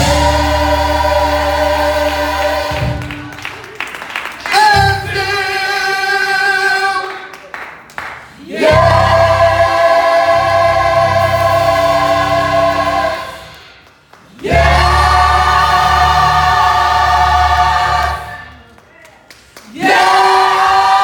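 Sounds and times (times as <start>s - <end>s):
gospel choir singing chords: 0.0s - 3.6s, 4.4s - 7.1s, 8.3s - 18.6s, 19.6s - 21.0s.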